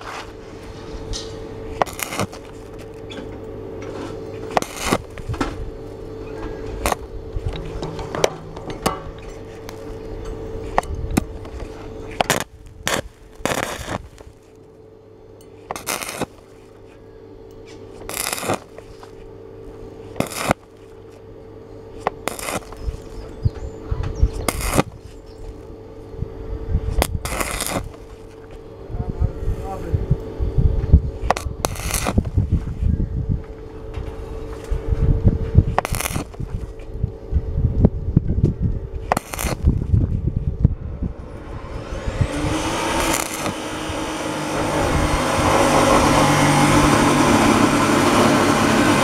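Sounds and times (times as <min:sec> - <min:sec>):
welding arc crackling: 0:00.0 - 0:29.0, 0:31.0 - 0:32.8, 0:33.4 - 0:38.2, 0:38.8 - 0:49.0
steady low hum: 0:00.0 - 0:49.0.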